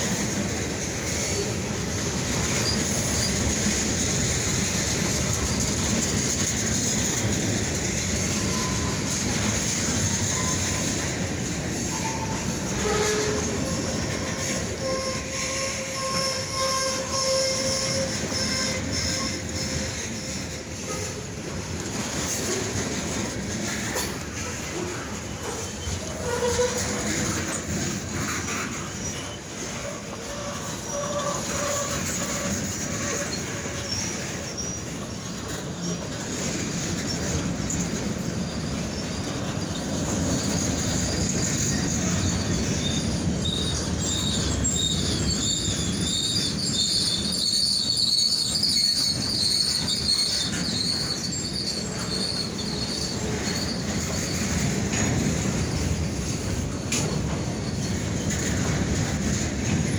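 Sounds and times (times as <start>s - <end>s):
steel wheels squealing: 0.0s - 59.9s
train wheels rumbling on rails: 0.0s - 59.9s.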